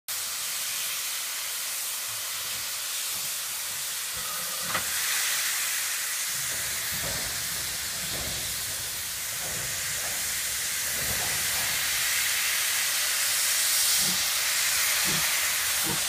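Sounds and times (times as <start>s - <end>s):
steam locomotive hissing: 0.1s - 16.0s.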